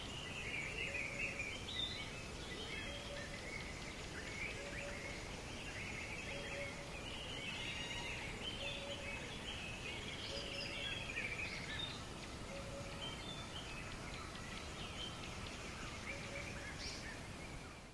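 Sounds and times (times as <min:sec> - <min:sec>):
birds chirping and trilling: 0:00.0 - 0:17.9
river hiss: 0:00.0 - 0:17.9.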